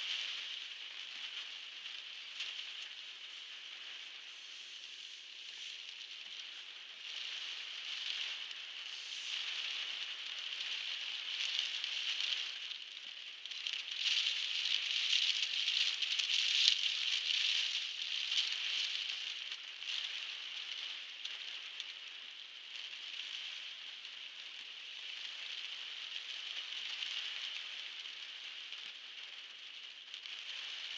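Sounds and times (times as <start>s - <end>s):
heavy rain on car roof: 5.3s - 30.9s.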